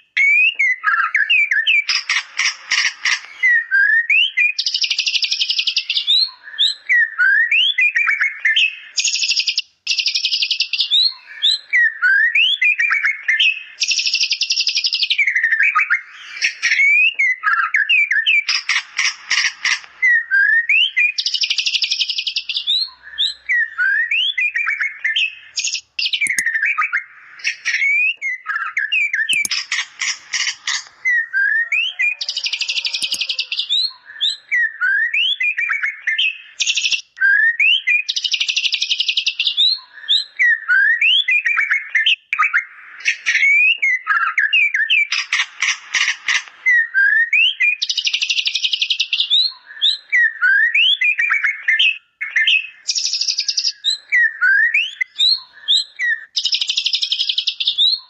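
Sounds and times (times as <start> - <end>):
bird singing chirps and trills: 3.2 - 18.5, 20.0 - 29.8, 30.5 - 45.1, 47.0 - 58.0.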